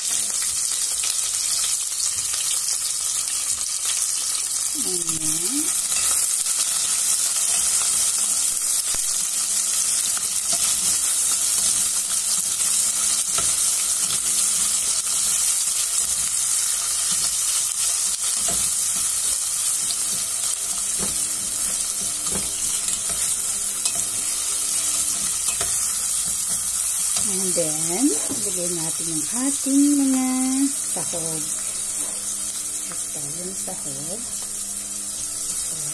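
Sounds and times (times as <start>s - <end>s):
onions sizzling in hot oil: 0.0s - 35.9s.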